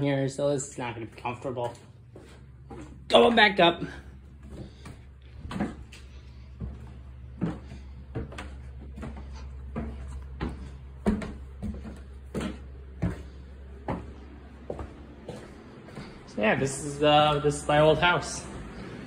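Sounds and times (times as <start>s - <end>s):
footsteps climbing stairs: 0.0s - 18.8s.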